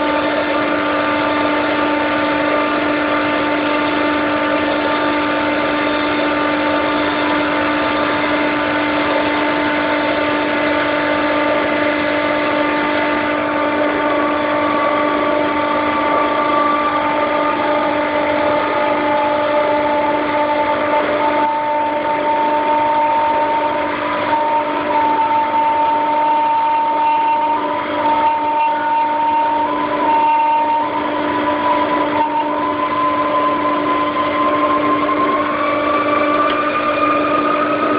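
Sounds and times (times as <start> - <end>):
chiller compressor hum: 0.0 - 37.9
rising compressor whine: 0.0 - 37.9.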